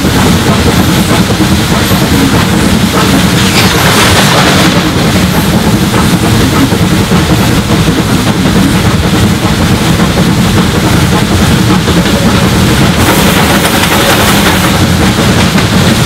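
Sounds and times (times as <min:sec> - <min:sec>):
rail noise: 0:00.0 - 0:16.0
steam locomotive exhaust beat: 0:00.0 - 0:16.0.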